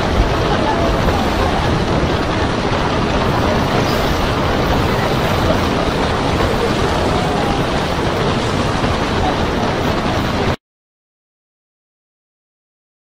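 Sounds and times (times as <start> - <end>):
sea water against a ship: 0.0 - 10.6
storm wind rushing: 0.0 - 10.6.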